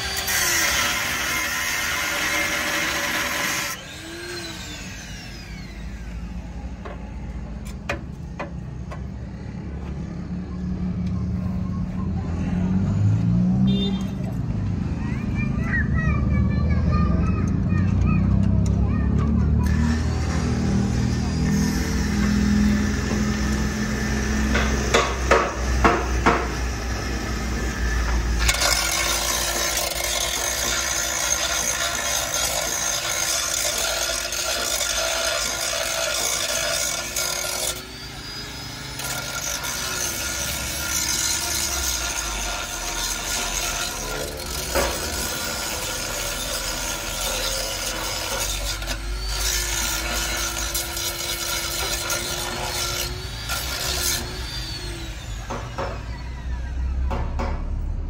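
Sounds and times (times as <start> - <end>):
angle grinder cutting metal: 0.0 - 11.7, 19.3 - 57.1.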